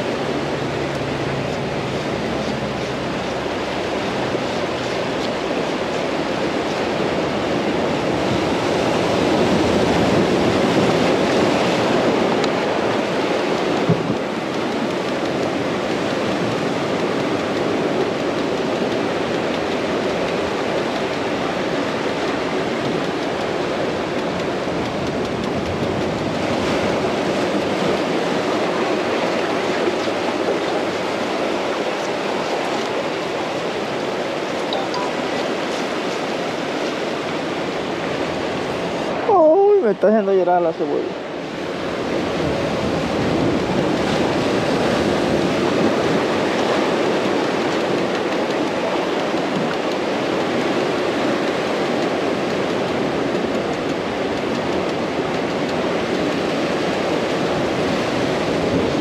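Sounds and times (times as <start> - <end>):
ocean surf washing onto beach: 0.0 - 59.0.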